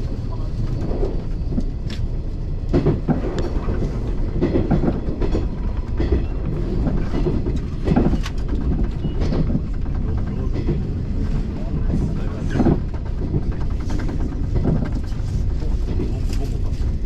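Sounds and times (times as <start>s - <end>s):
train rumble: 0.0s - 17.0s
wheels clacking over rail joints: 0.3s - 17.0s.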